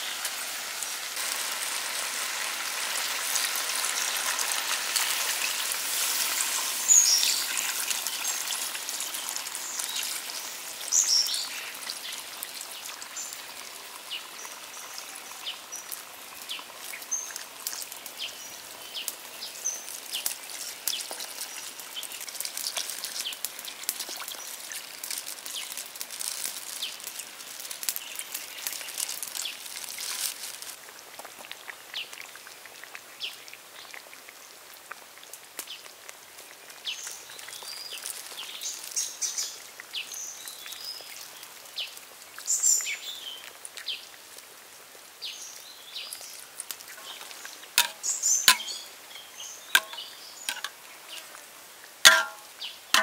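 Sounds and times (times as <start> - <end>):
curry sauce bubbling and popping: 0.0 - 53.0.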